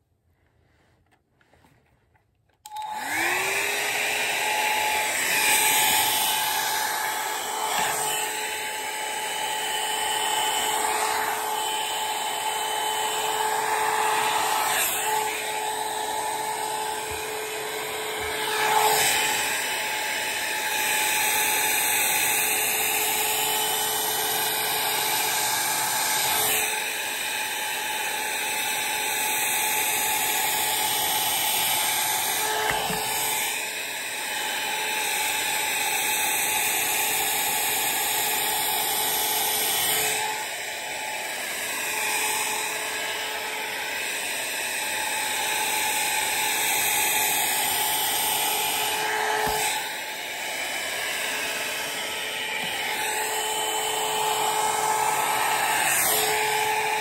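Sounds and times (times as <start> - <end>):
hair dryer running: 2.5 - 57.0.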